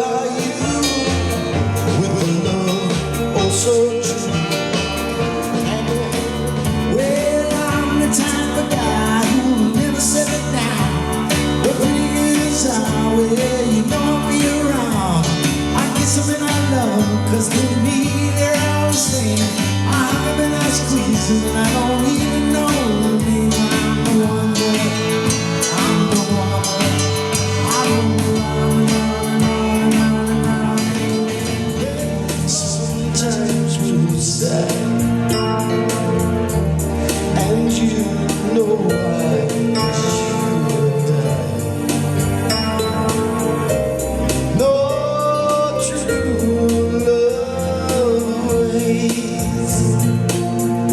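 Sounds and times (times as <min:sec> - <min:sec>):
pop music medley: 0:00.0 - 0:50.9.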